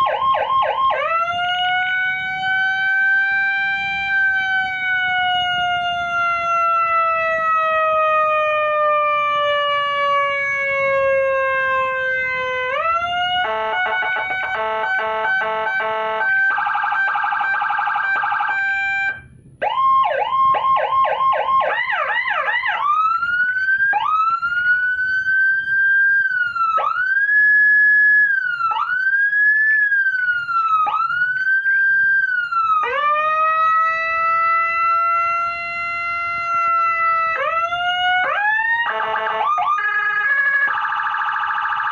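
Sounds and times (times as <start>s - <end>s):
electronic siren wailing and yelping: 0.0s - 41.9s.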